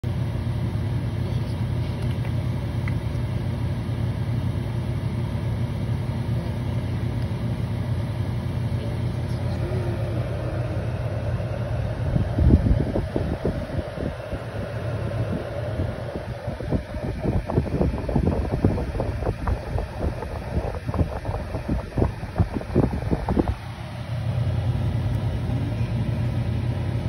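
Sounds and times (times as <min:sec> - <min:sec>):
air cooler fan humming: 0:00.0 - 0:27.0.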